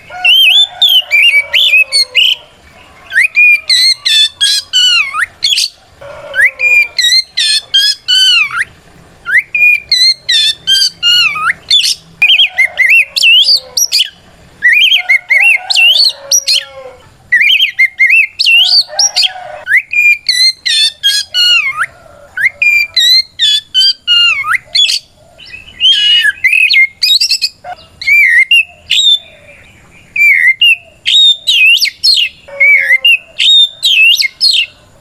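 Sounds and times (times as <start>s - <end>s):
magpie-robin singing whistled phrases: 0.0s - 2.4s, 3.0s - 16.7s, 17.3s - 29.4s, 30.0s - 34.8s.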